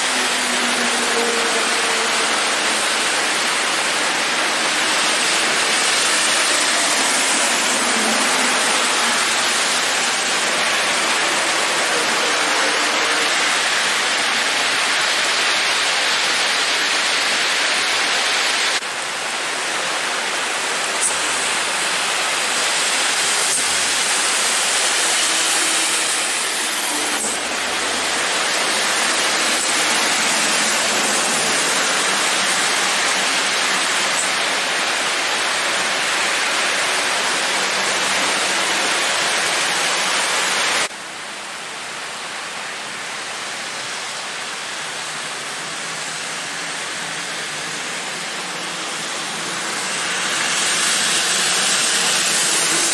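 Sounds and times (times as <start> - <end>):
trucks passing on wet road: 0.0 - 41.0, 42.8 - 52.9
heavy rain hissing: 0.0 - 52.9.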